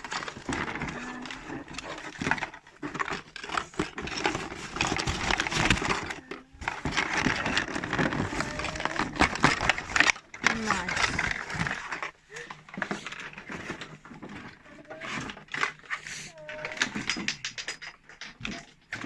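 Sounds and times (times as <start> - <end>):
packaging crinkling and rustling: 0.0 - 19.0
small clicks and knocks: 0.0 - 19.0.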